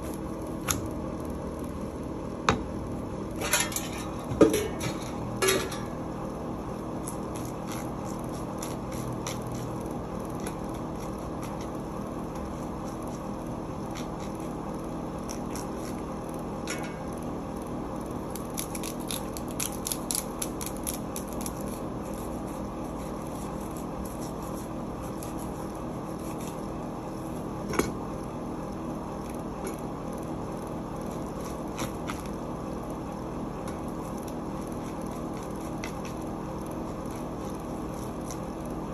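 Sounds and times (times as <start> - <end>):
steady background hum: 0.0 - 38.9.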